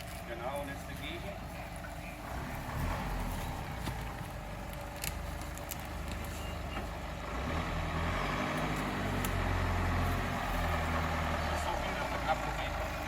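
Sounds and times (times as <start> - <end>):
off-road engine under load: 0.0 - 13.0.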